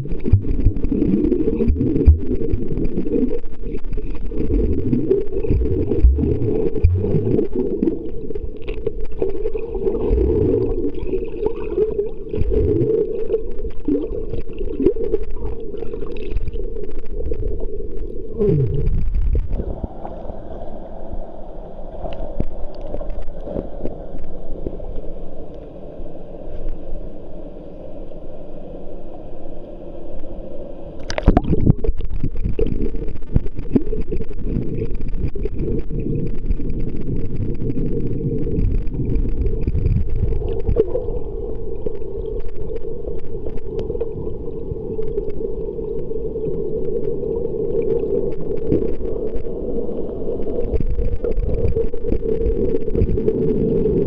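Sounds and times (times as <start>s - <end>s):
waterfall rumbling underwater: 0.0s - 54.0s.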